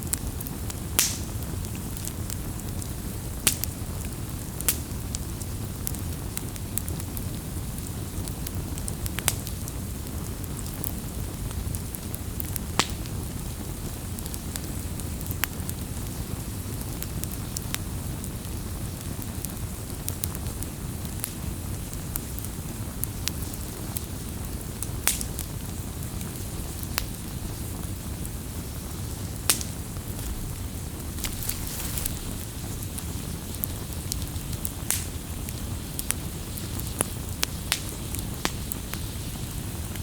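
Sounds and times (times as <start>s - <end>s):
campfire flame rush: 0.0s - 40.0s
fire crackling and popping: 0.0s - 40.0s.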